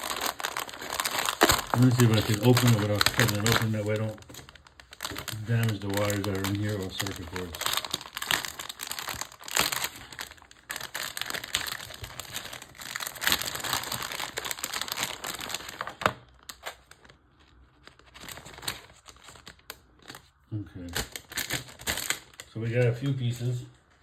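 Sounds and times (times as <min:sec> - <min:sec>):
packaging crackling: 0:00.0 - 0:23.6.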